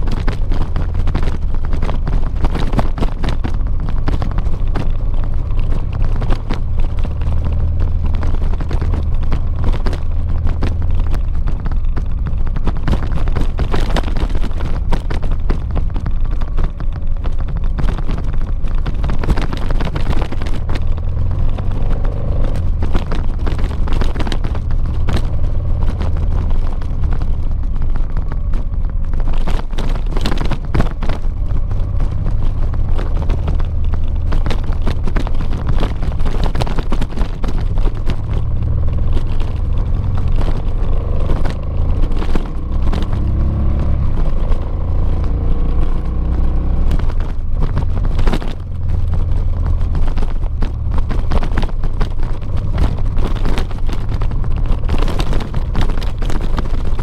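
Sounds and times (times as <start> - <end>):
motorcycle engine running: 0.0 - 57.0
rattle of small knocks and jolts: 0.0 - 57.0.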